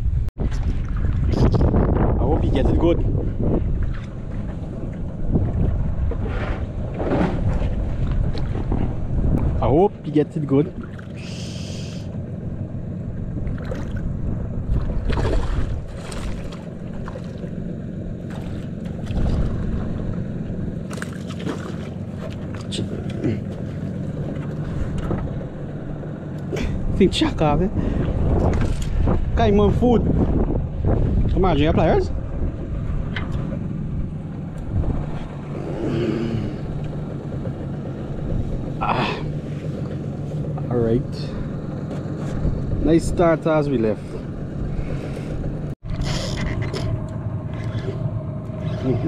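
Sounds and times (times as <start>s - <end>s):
wind buffeting microphone: 0.0s - 11.2s, 12.1s - 49.0s
boat motor rumble: 0.0s - 49.0s.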